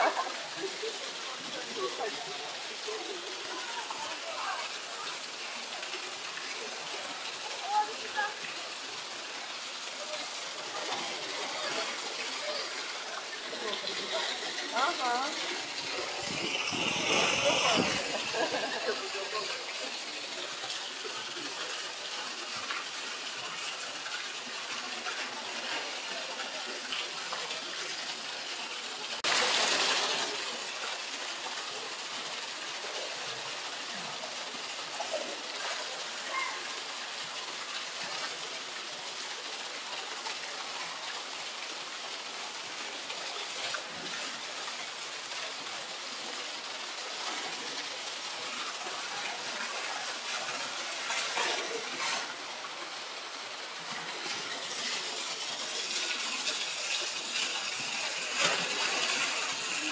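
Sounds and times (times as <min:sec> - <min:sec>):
water jet pouring into pool: 0:00.0 - 0:59.9.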